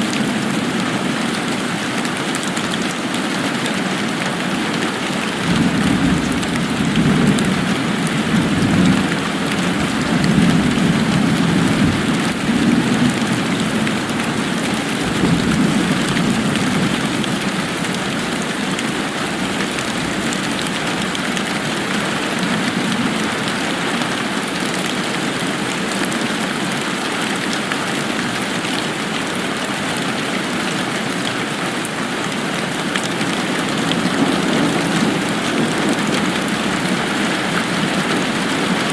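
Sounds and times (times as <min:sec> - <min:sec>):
steady rain hissing: 0:00.1 - 0:38.9.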